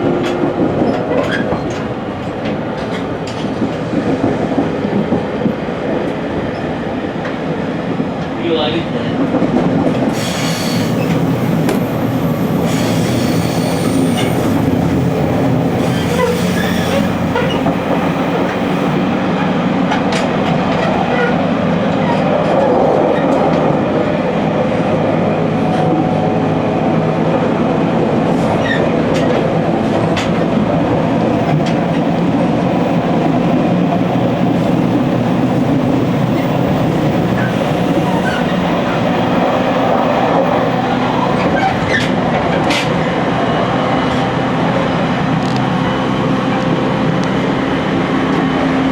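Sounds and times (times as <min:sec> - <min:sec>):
train wheels rumbling on rails: 0:00.0 - 0:48.9.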